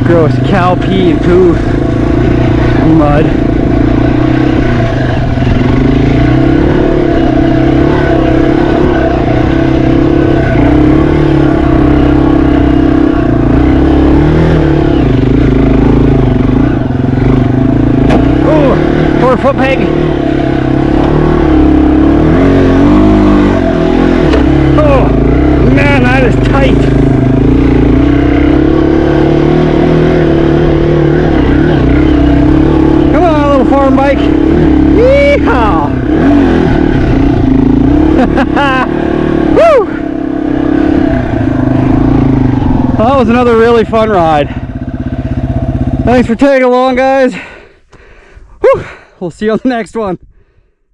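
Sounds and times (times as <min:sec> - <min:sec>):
motorcycle engine running: 0:00.0 - 0:49.8.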